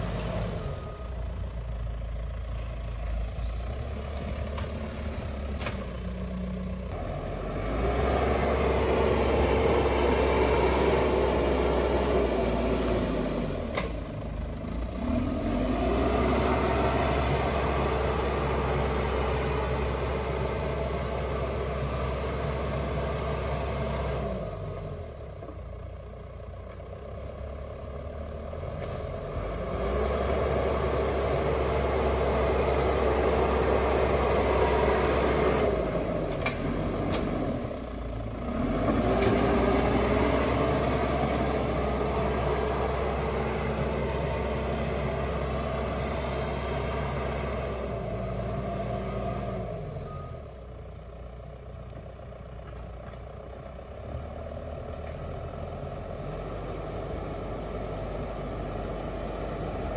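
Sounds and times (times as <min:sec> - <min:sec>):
diesel engine of heavy machine: 0:00.0 - 0:59.9.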